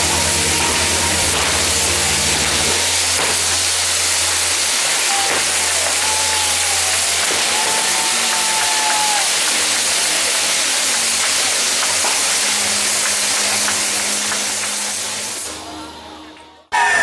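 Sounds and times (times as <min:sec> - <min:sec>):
firework whistle: 0:00.0 - 0:15.6, 0:16.7 - 0:17.0
ground fireworks hissing: 0:00.0 - 0:16.3.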